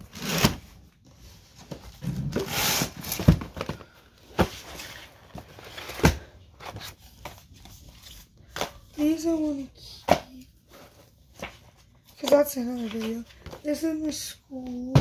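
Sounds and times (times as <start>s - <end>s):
papers rustling and shuffling: 0.0s - 15.0s.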